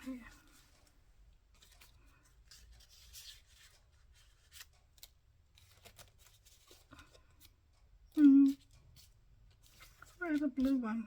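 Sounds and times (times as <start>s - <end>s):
paper and card rustling: 0.0s - 11.0s.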